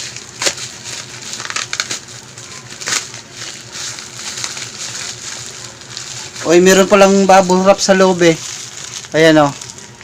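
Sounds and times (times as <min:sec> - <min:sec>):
packaging crinkling: 0:00.0 - 0:10.0
packaging ripping: 0:00.0 - 0:10.0.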